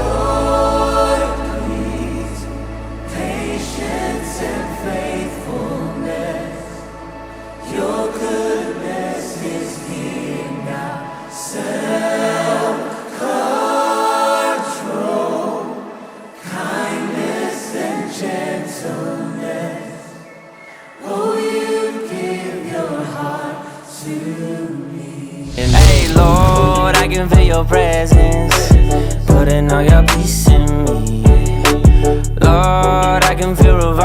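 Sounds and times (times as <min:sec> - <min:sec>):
choir singing gospel song: 0:00.0 - 0:27.4.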